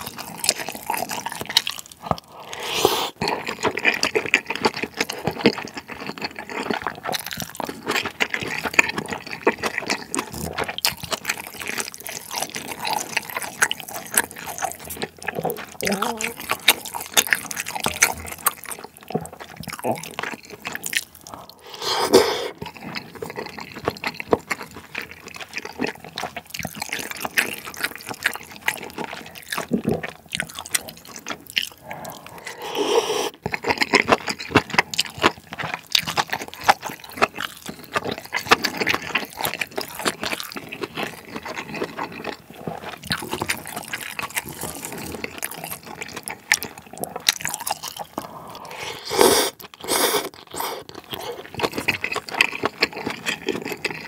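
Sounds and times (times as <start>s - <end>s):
noodles slurped: 0.0s - 54.0s
wet chewing: 0.0s - 54.0s.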